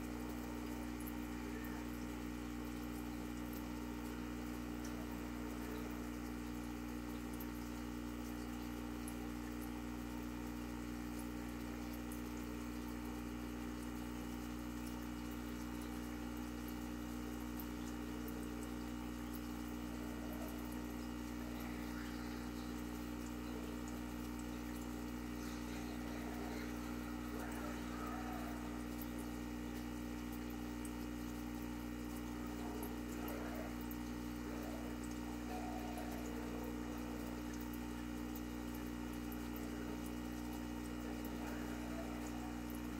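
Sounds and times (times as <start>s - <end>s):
aquarium pump humming: 0.0s - 42.9s
faint hiss of moving water: 0.0s - 42.9s.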